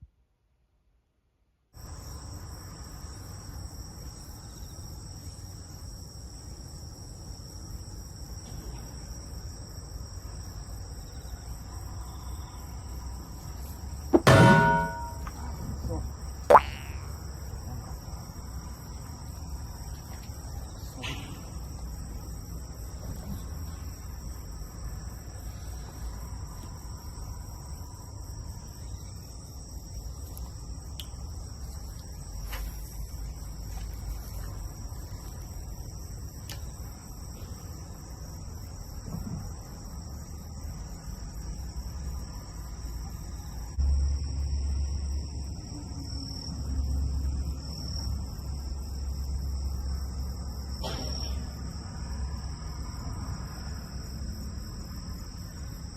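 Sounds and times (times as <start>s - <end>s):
high-pitched insect chorus: 1.8s - 55.9s.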